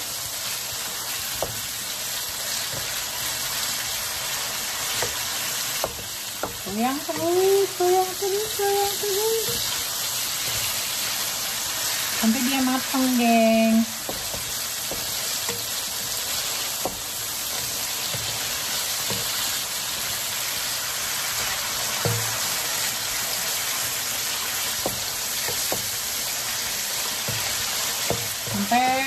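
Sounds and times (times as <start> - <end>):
chicken sizzling in oil: 0.0 - 29.0.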